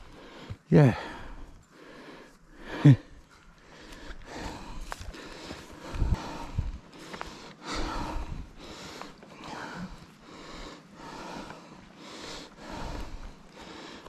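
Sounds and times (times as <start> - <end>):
person breathing hard: 0.0 - 14.0.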